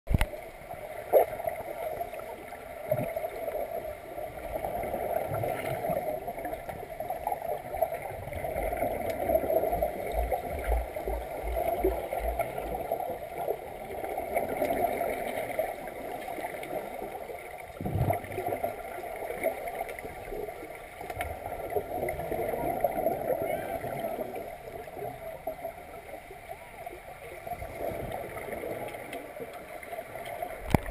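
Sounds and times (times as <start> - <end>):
muffled watery rush: 0.1 - 30.9
underwater bubbles gurgling: 0.1 - 30.9.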